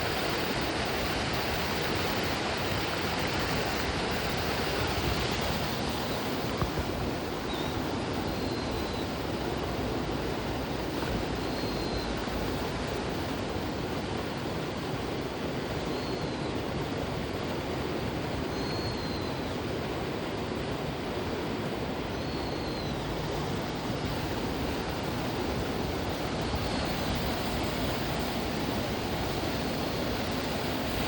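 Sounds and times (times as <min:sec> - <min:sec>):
steady rushing noise: 0:00.0 - 0:18.6, 0:19.2 - 0:31.0.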